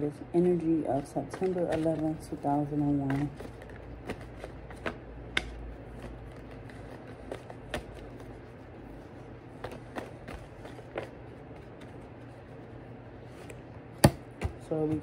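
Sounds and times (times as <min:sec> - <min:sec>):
cards being shuffled: 0:00.9 - 0:13.7.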